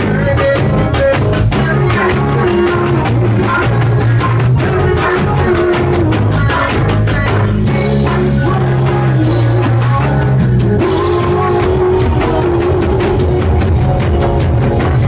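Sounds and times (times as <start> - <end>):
man singing into microphone: 0.0 - 14.1
backing track with bass and drums: 0.0 - 15.0.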